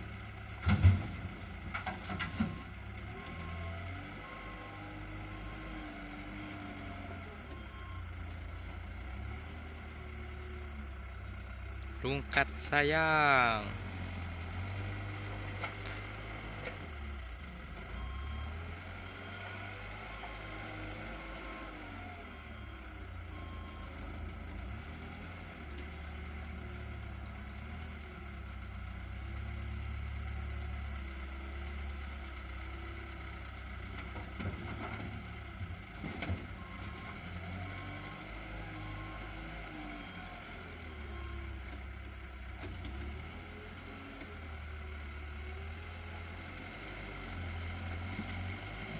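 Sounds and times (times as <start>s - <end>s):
truck engine idling: 0.0s - 39.6s.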